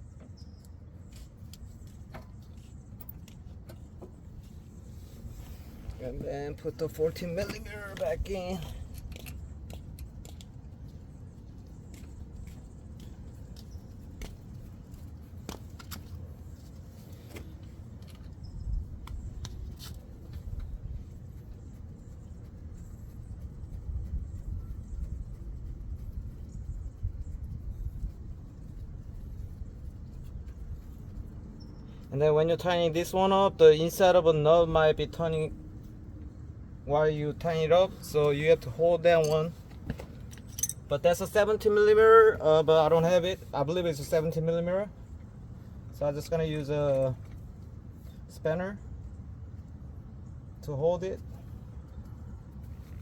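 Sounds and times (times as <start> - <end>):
low background rumble: 0.0 - 53.0.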